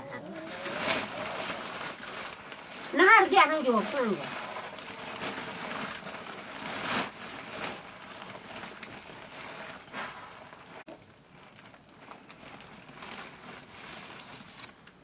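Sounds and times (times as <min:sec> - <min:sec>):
plastic sack rustling: 0:00.1 - 0:15.0
dry rice grains hissing: 0:00.2 - 0:14.8.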